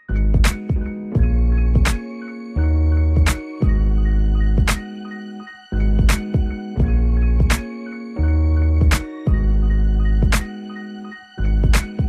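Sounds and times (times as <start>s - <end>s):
background music with deep bass: 0.0s - 12.0s.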